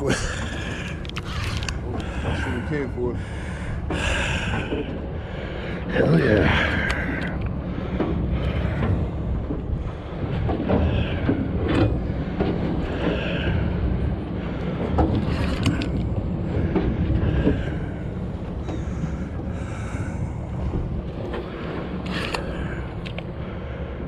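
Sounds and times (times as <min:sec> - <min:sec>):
boat engine rumble: 0:00.0 - 0:24.0.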